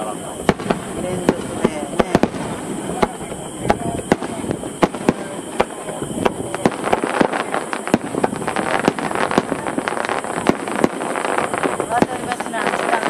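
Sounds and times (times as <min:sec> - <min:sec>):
crowd voices: 0:00.0 - 0:13.0
fireworks bangs and cracks: 0:00.0 - 0:13.0.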